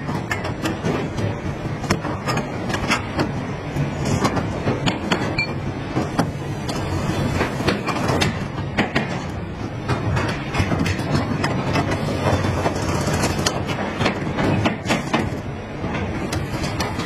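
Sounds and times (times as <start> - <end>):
steady machinery drone: 0.0 - 17.0.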